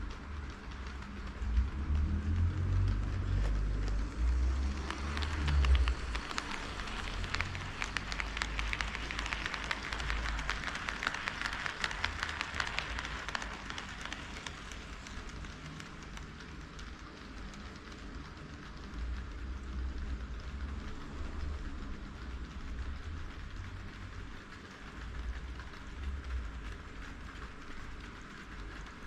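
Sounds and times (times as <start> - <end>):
model train rumbling: 0.0 - 29.0
wheels clicking over rail joints: 0.0 - 29.0.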